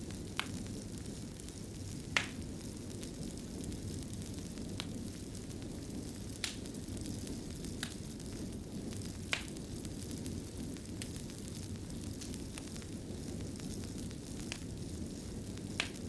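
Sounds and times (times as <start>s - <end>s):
low rush of flame: 0.0s - 16.0s
sharp fire crackles: 0.0s - 16.0s.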